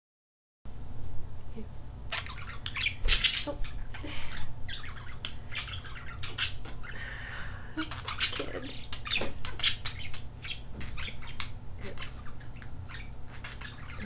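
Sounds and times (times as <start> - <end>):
budgies chirping and squawking: 2.1 - 14.0.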